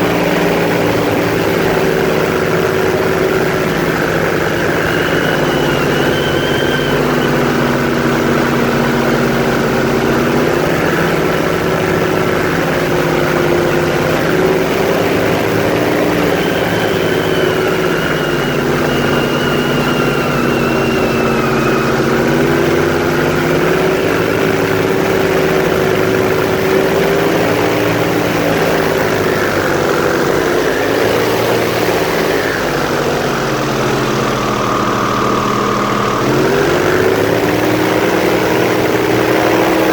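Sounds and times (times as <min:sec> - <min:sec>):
airboat engine and propeller drone: 0:00.0 - 0:39.9.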